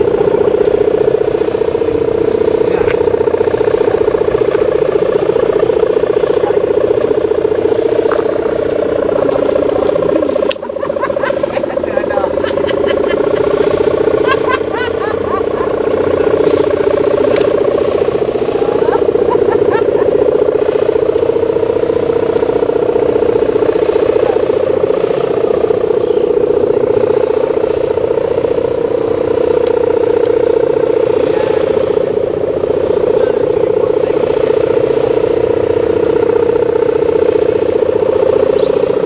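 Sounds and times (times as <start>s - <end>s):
kite hummer buzzing drone: 0.0s - 39.0s.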